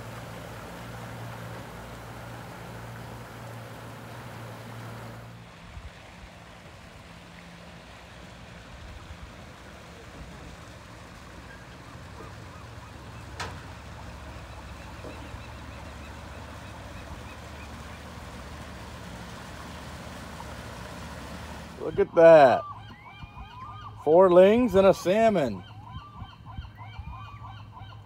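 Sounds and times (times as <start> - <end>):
motorboat engine humming: 0.0 - 28.0.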